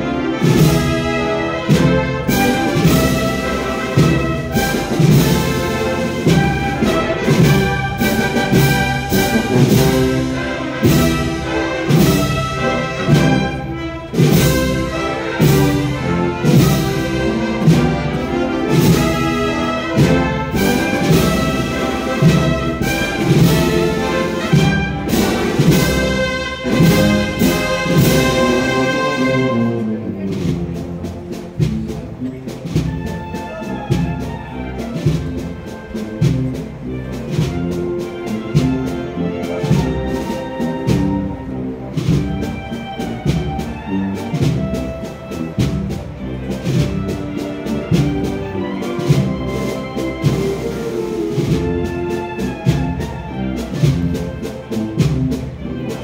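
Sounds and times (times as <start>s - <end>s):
brass band playing a slow march: 0.0s - 56.0s
drum strokes: 0.0s - 56.0s.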